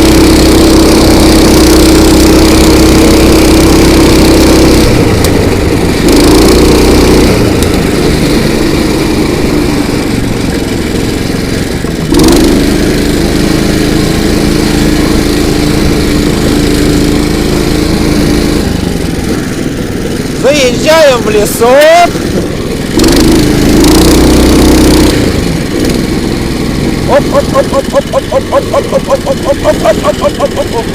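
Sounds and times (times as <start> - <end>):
small petrol engine revving: 0.0 - 30.9.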